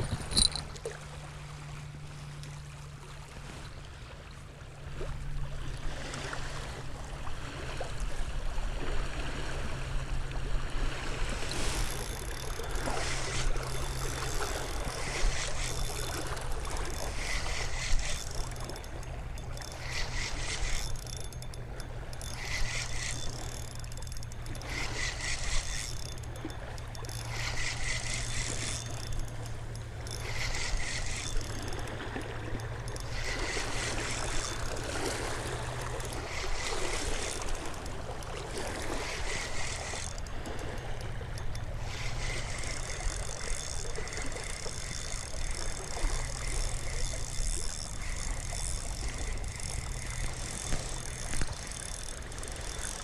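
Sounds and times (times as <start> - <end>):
fishing reel being cranked: 0.0 - 1.0, 7.5 - 53.0.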